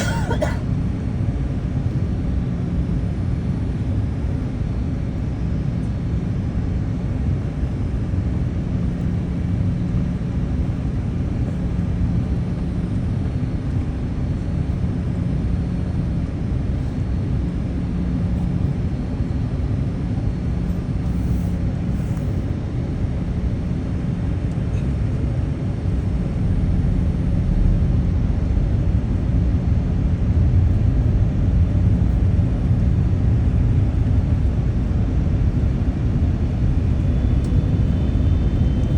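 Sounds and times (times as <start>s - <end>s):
airliner engine rumble: 0.0s - 38.9s
faint constant hum: 0.0s - 38.9s.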